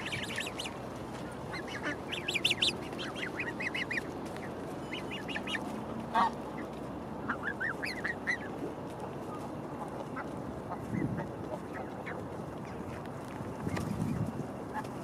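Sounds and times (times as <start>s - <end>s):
geese calling: 0.0s - 15.0s.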